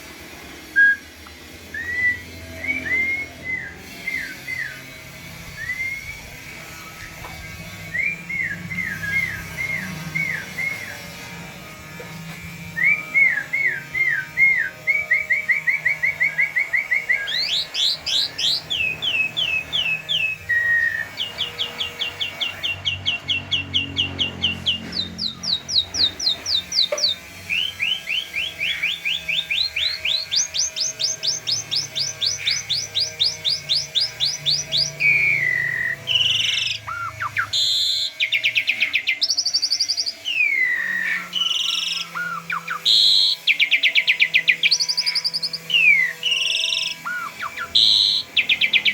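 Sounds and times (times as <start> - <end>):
starling singing whistled runs: 0.7 - 11.3, 12.5 - 48.9.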